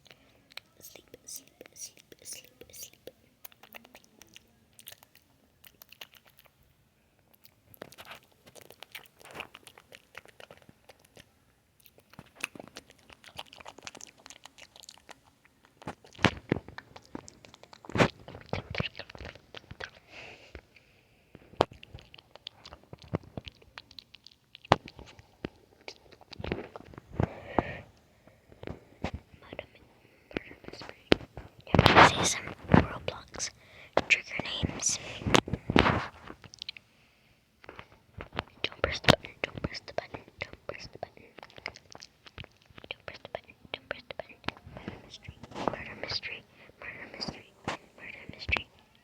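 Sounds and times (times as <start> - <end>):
gum chewing mouth clicks: 0.0 - 6.7, 7.3 - 20.6, 21.4 - 27.8, 28.5 - 36.8, 37.6 - 48.7.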